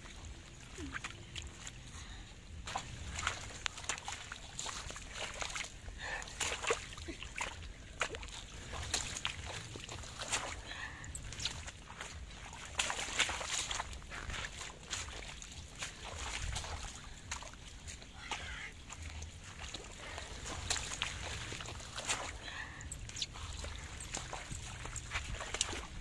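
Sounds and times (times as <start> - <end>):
hands splashing in muddy water: 2.6 - 26.0.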